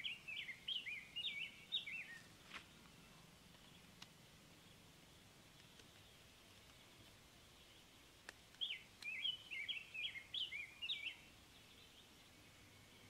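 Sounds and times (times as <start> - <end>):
bird singing: 0.0 - 13.0
faint background hiss: 0.0 - 13.0.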